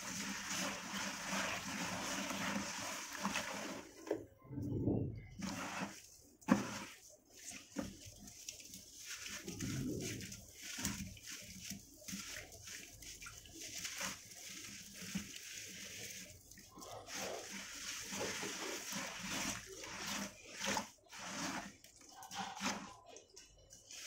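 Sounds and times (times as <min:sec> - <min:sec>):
hand swishing through water: 0:00.0 - 0:23.0.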